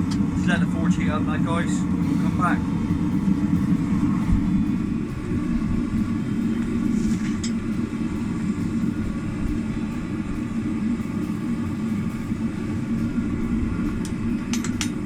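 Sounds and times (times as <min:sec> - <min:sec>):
gas forge burner roaring: 0:00.0 - 0:15.0.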